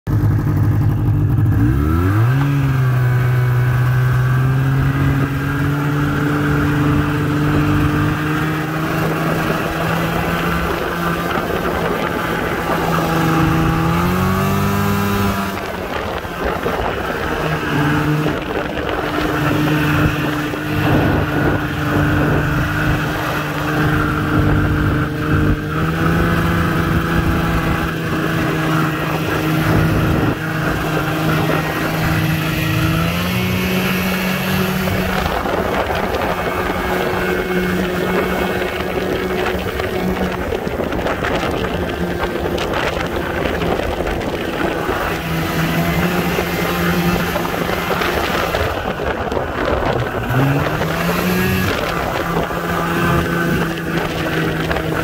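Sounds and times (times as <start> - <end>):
snowmobile engine running: 0.1 - 55.0.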